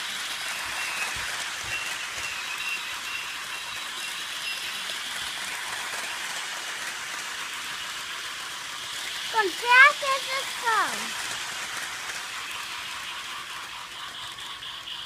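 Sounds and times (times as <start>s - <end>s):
toy train whirring and rattling: 0.0s - 15.0s.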